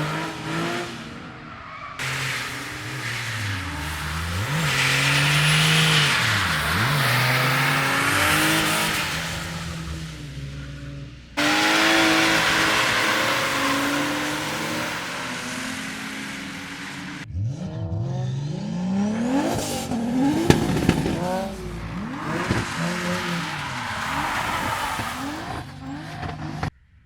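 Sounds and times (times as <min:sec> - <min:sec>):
car engine revving: 0:00.0 - 0:26.7.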